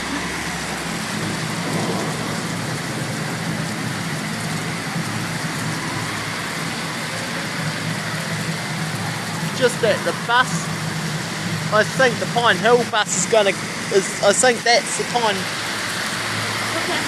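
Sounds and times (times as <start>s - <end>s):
heavy rain falling: 0.0s - 17.0s
vehicle engine running: 0.0s - 17.0s.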